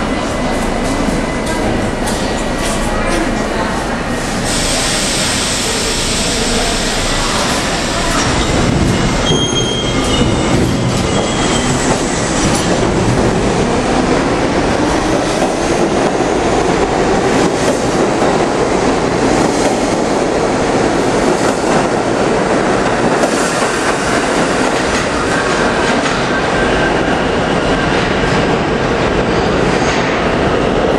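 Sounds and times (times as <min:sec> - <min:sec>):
subway train pulling out: 0:00.0 - 0:30.9.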